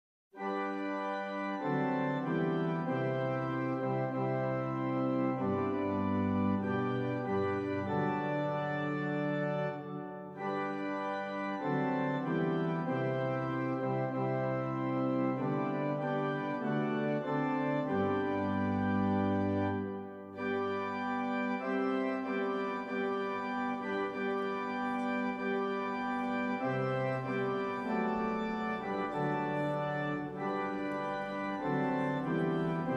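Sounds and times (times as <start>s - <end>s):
organ playing held chords: 0.4s - 32.9s.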